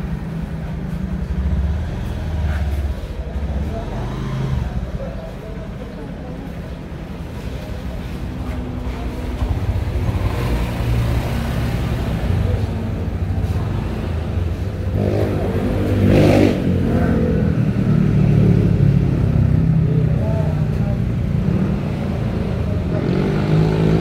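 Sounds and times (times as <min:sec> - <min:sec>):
cars and motorcycles passing: 0:00.0 - 0:24.0.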